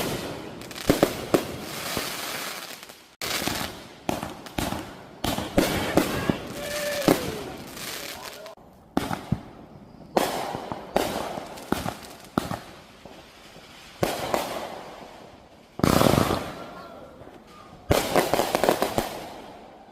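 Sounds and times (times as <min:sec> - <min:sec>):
fireworks bangs with crackle: 0:00.0 - 0:19.8.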